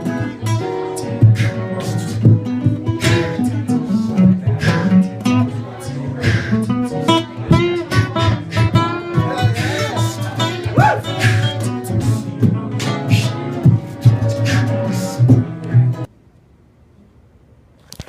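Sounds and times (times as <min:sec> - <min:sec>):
acoustic guitar strumming: 0:00.0 - 0:16.1.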